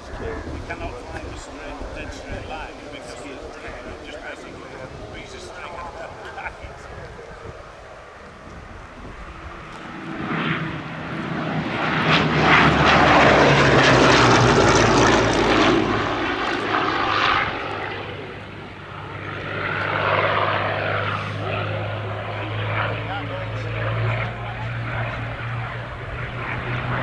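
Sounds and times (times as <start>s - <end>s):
propeller aircraft engine flypast: 0.0s - 27.0s.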